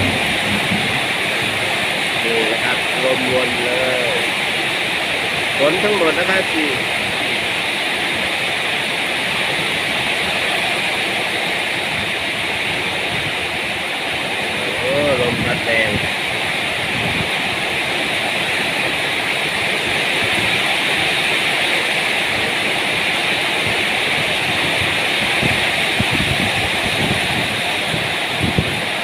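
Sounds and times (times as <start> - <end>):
heavy rain downpour: 0.0 - 29.0
strong wind: 0.0 - 29.0.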